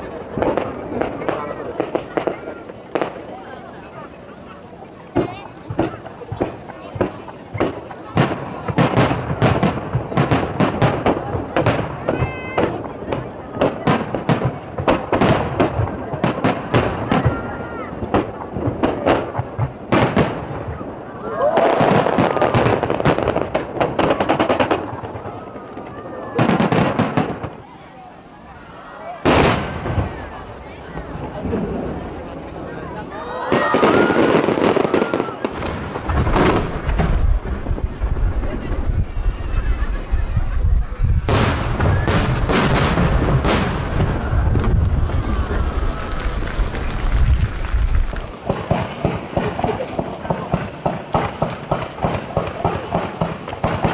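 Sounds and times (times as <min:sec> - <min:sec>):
low rumble of explosions: 0:00.0 - 0:28.5, 0:29.2 - 0:53.9
fireworks bangs: 0:00.0 - 0:53.9
fireworks crackling: 0:00.0 - 0:53.9.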